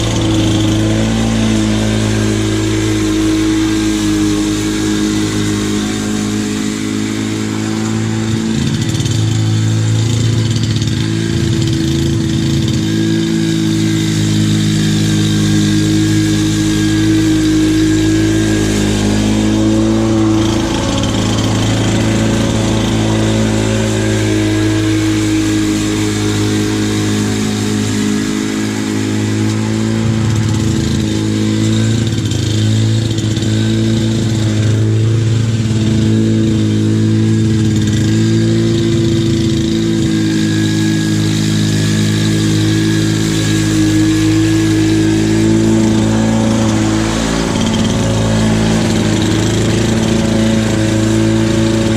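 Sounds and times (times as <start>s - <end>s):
lawn mower engine cutting grass: 0.0s - 51.9s.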